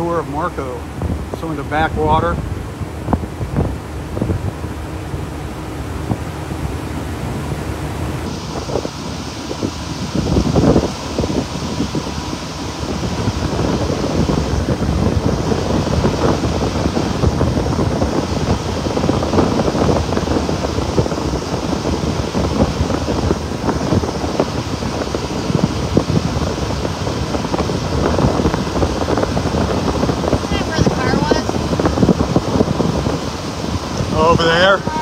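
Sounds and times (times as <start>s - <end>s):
boat motor droning: 0.0s - 35.0s
water noise: 0.0s - 35.0s
wind buffeting microphone: 0.0s - 35.0s.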